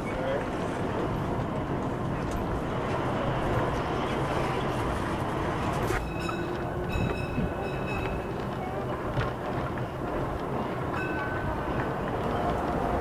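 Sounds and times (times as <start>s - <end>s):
low rumble of street ambience: 0.0s - 13.0s.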